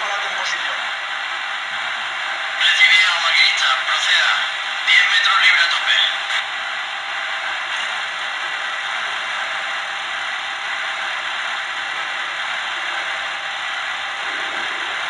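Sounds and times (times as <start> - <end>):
steady mechanical hiss from speaker: 0.0 - 15.0.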